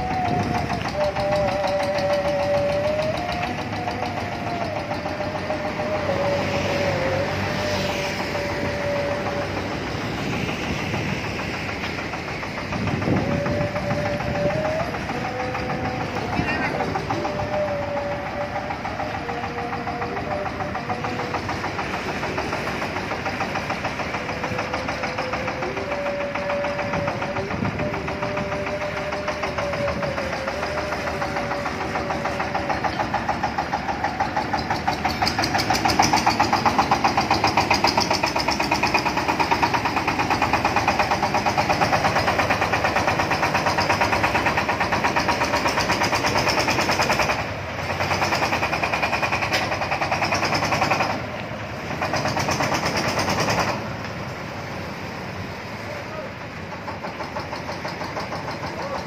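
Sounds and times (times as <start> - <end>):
diesel engine knocking: 0.0 - 59.0.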